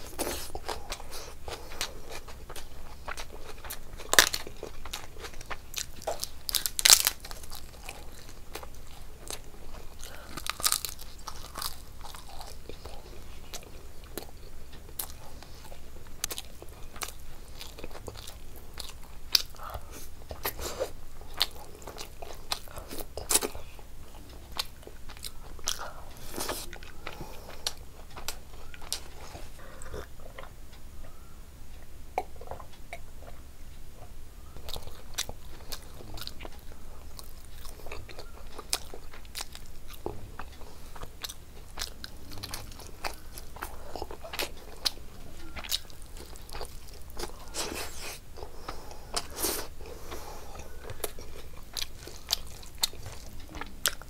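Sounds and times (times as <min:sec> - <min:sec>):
person chewing with crunches: 0:00.0 - 0:30.6, 0:31.7 - 0:54.0.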